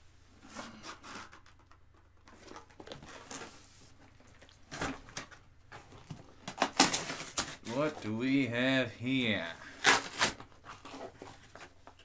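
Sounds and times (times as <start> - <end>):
cardboard rustling and scraping: 0.3 - 8.2, 9.6 - 12.0.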